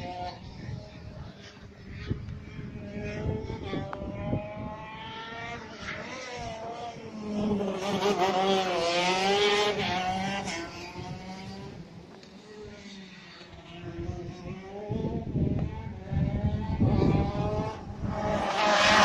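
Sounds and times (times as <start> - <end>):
go-kart engine passing: 0.0 - 19.0.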